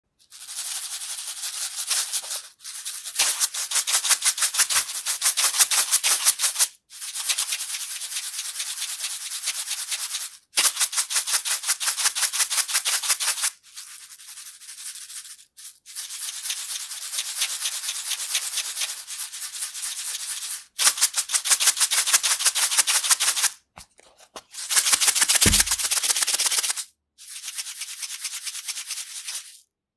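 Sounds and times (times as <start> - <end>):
seeds rattling in plastic box: 0.2 - 7.6, 10.2 - 29.7.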